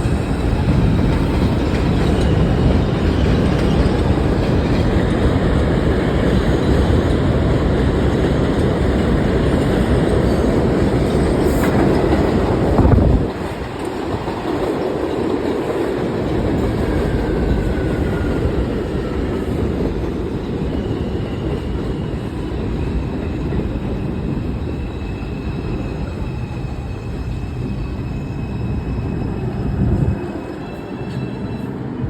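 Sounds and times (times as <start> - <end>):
subway train rumbling on tracks: 0.0 - 32.0.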